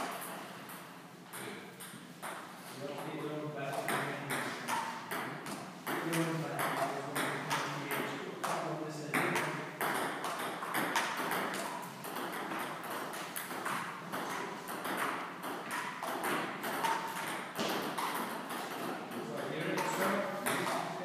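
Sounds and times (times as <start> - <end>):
table tennis balls clicking: 3.7 - 21.0.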